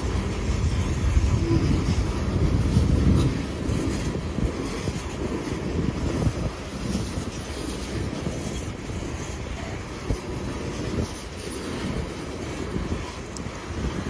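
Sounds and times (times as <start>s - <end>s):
steel wheels rumbling on rail: 0.0s - 14.0s
wheels clacking: 0.0s - 14.0s.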